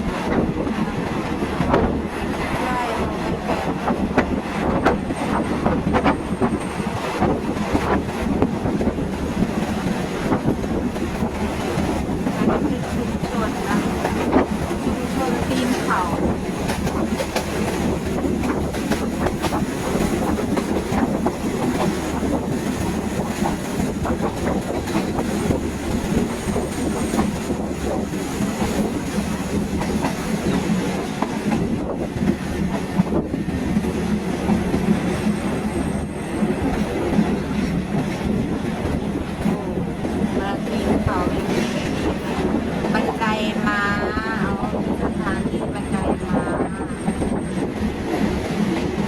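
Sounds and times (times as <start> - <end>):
train rumbling along track: 0.0 - 49.0.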